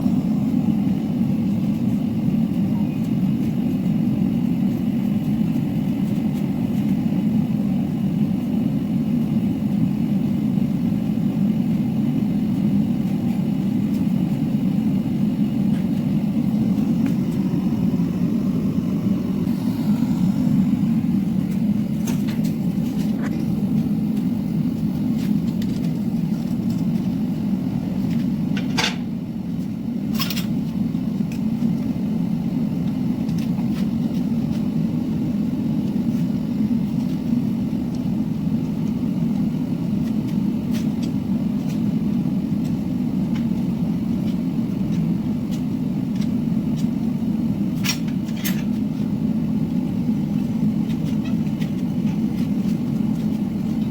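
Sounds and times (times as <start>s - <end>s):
steady low rumble: 0.0s - 53.9s.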